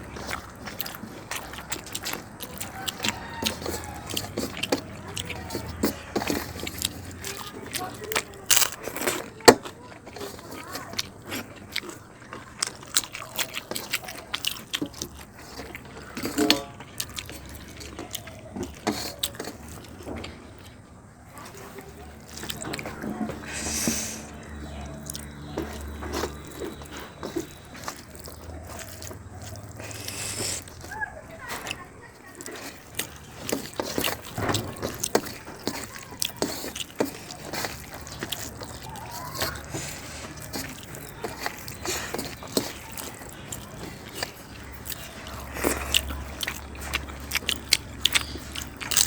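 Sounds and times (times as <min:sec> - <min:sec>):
lip smacking: 0:00.0 - 0:49.0
wet chewing and mouth clicks: 0:00.0 - 0:49.0.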